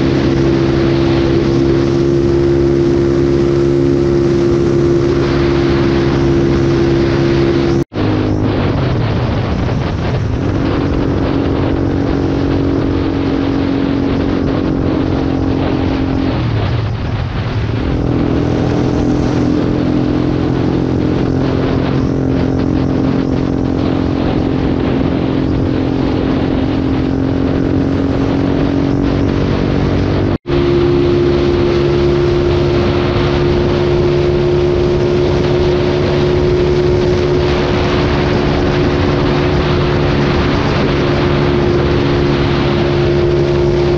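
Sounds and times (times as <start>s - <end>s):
motorcycle engine at highway speed: 0.0s - 43.9s
wind rushing over microphone: 0.0s - 43.9s.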